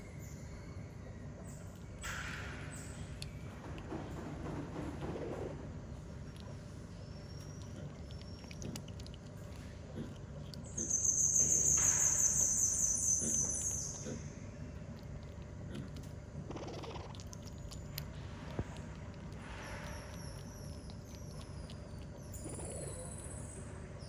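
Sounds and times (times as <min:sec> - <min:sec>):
faint chewing clicks: 0:02.8 - 0:23.4.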